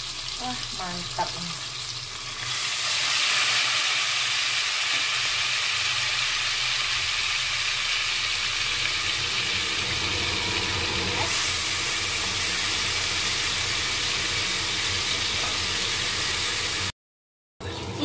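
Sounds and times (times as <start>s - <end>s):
fish sizzling in hot oil: 0.0s - 16.9s.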